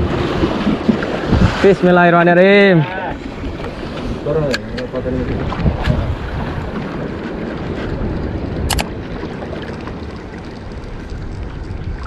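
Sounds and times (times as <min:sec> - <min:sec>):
sea noise: 0:00.0 - 0:12.0
wind: 0:00.0 - 0:12.0.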